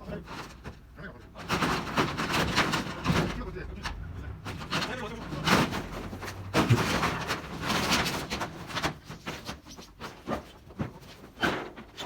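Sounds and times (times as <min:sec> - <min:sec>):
metal roofing clattering and scraping: 0:00.0 - 0:12.0.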